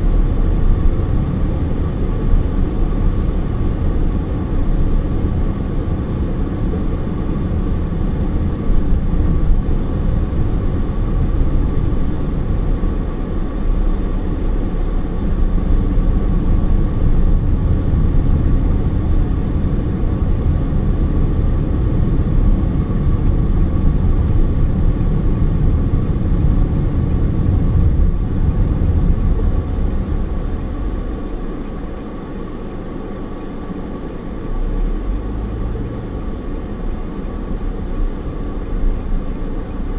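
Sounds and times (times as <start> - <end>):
car tyres and engine rumbling: 0.0 - 39.9
faint steady whine: 0.0 - 39.9.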